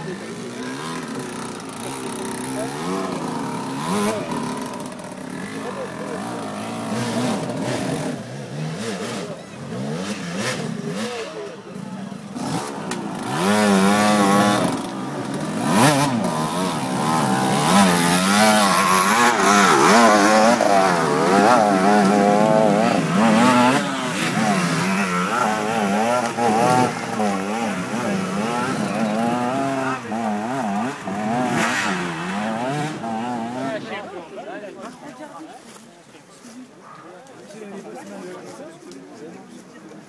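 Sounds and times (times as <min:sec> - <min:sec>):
motorcycle engines revving: 0:00.0 - 0:35.6.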